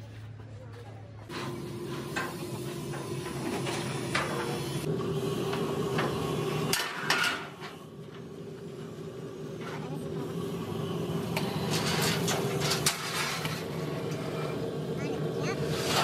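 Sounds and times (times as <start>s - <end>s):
steady machine hum: 1.2s - 16.0s.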